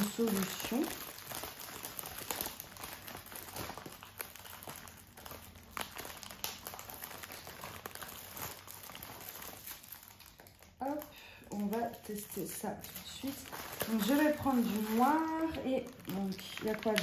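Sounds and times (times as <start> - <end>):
plastic packets crinkling: 0.0 - 17.0.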